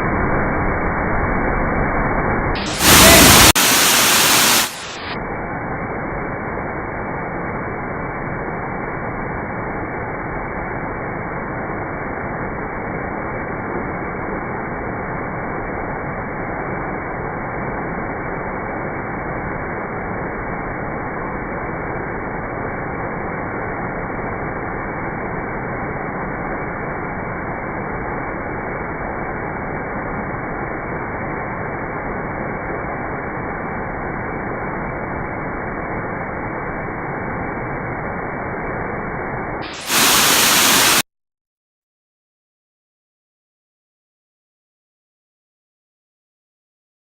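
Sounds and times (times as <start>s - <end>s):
muffled waterfall rushing: 0.0s - 41.0s.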